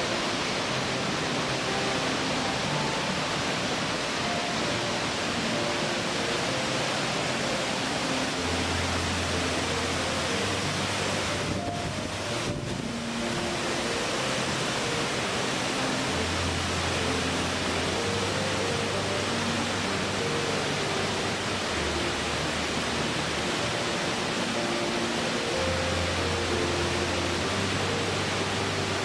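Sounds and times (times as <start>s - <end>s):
rushing water: 0.0s - 29.0s
slow held musical notes: 0.0s - 29.0s.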